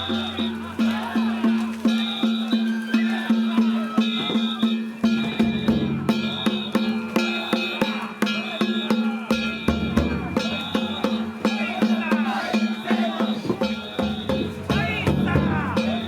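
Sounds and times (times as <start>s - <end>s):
taiko drums: 0.0s - 16.0s
voices calling: 0.0s - 16.0s.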